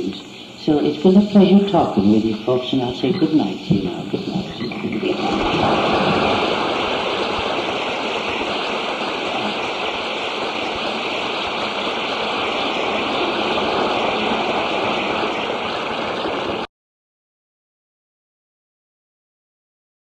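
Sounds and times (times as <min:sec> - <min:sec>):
steady rushing hiss: 0:00.0 - 0:16.7.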